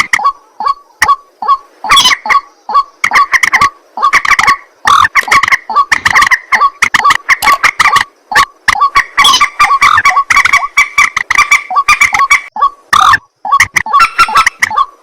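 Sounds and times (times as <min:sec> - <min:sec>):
waterhens calling harshly: 0:00.0 - 0:15.0.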